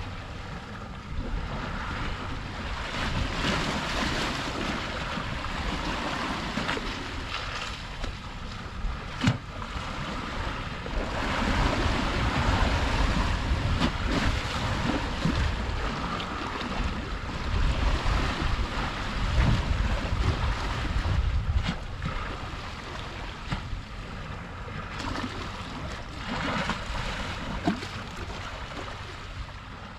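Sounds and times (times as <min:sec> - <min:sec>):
wind buffeting microphone: 0:00.0 - 0:29.7
sea waves washing: 0:00.0 - 0:29.9.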